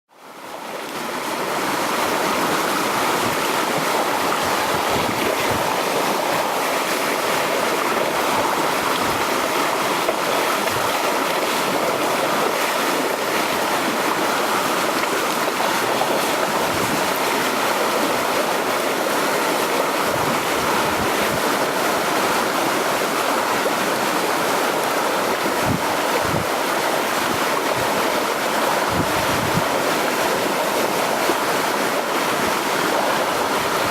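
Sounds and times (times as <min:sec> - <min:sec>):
surf washing against shore: 0:00.3 - 0:33.9.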